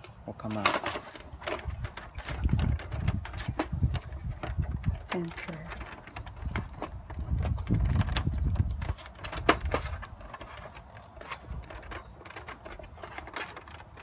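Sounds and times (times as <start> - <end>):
plastic fan casing clicks and knocks: 0.0 - 14.0.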